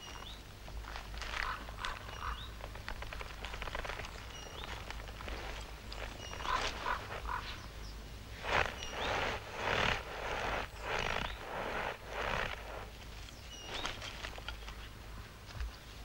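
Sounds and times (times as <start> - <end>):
footsteps crunching through snow: 0.8 - 15.0.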